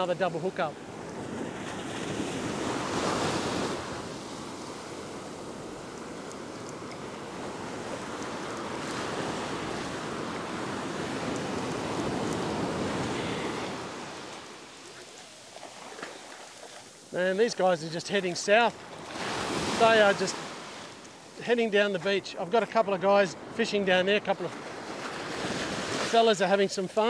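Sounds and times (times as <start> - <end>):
small waves washing ashore: 0.0 - 27.0.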